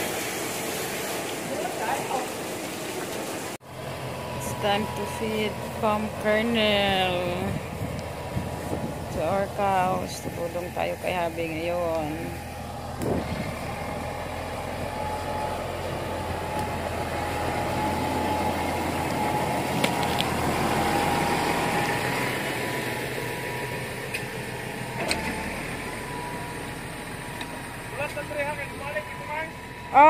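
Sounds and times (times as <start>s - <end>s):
farm vehicle engine running: 0.0s - 30.0s
thin steady whine: 3.6s - 30.0s.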